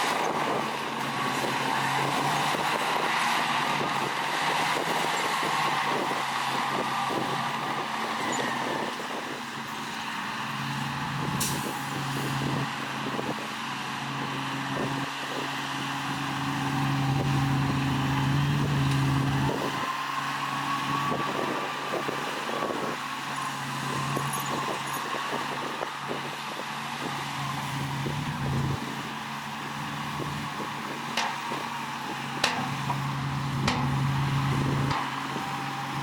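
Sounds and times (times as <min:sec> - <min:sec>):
diesel earthmoving machinery engine: 0:00.0 - 0:36.0.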